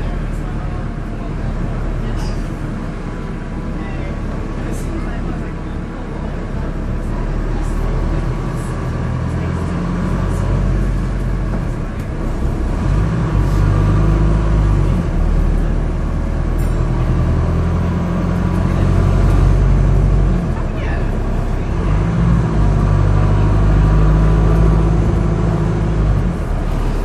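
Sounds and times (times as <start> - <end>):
bus diesel engine running: 0.0 - 27.0
road and cabin noise: 0.0 - 27.0.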